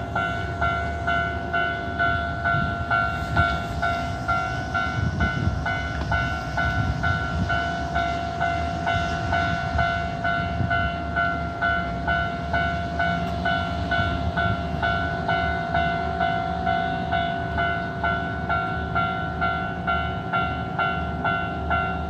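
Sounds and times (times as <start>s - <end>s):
level-crossing two-tone bell: 0.0s - 22.0s.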